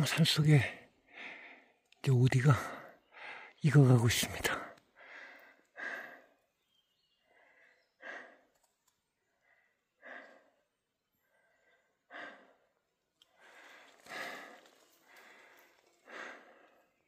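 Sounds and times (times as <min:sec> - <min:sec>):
man breathing heavily: 0:00.7 - 0:01.8, 0:02.6 - 0:03.6, 0:04.5 - 0:17.0.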